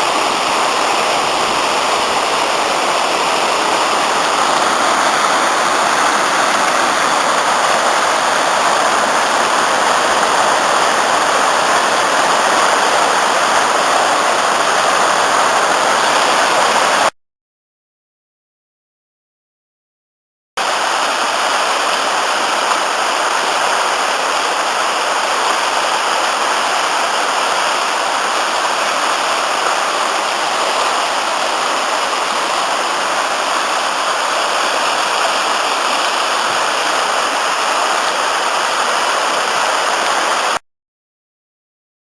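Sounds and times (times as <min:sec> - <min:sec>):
waterfall rushing: 0:00.0 - 0:17.1, 0:20.6 - 0:40.6.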